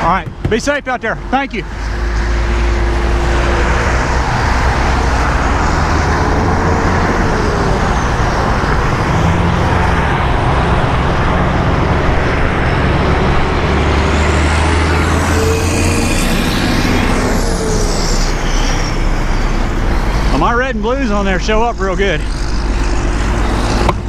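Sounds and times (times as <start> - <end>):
diesel truck engine drone: 0.0 - 24.0
passing traffic: 0.0 - 24.0
road and wind noise: 0.0 - 24.0.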